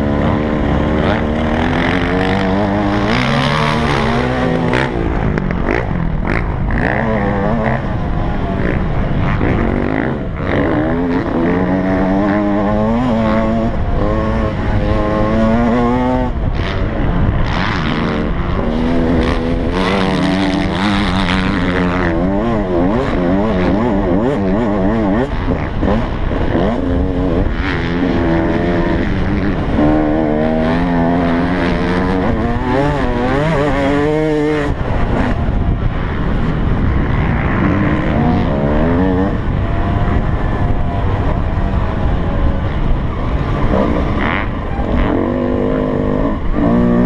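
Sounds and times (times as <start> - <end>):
motocross engine revving: 0.0 - 47.0.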